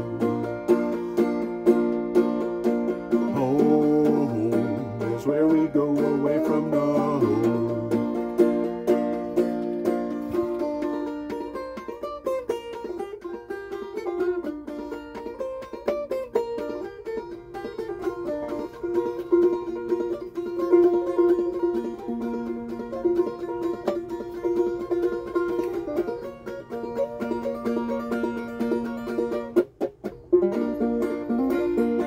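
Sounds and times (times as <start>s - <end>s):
banjo picking: 0.0s - 32.0s.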